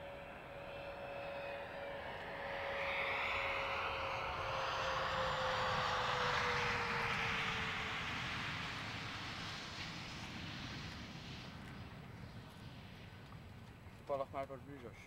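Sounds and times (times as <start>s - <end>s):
rushing jet noise: 0.0s - 14.7s
jet engines whining: 0.0s - 15.0s.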